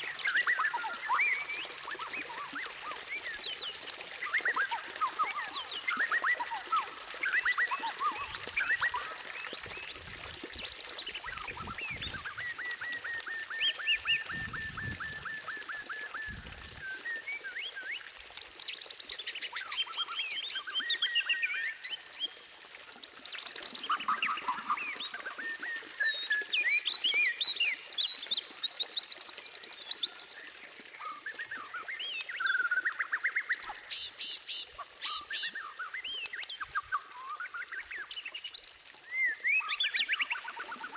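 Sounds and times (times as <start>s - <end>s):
songbird singing whistles and trills: 0.0s - 22.4s, 23.0s - 40.9s.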